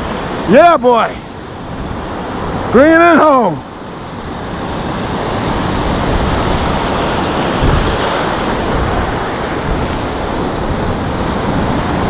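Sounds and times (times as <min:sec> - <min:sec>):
surf breaking over rocks: 0:00.0 - 0:12.0.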